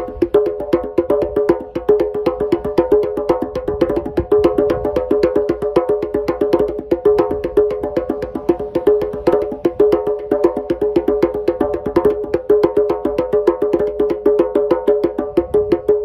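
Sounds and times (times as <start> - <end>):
djembes played by hand: 0.0 - 16.0.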